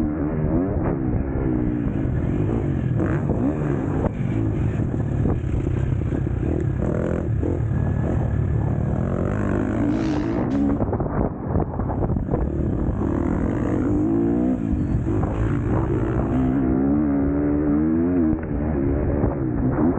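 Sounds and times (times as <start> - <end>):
motocross bike engine revving: 0.0 - 11.0, 12.2 - 19.9.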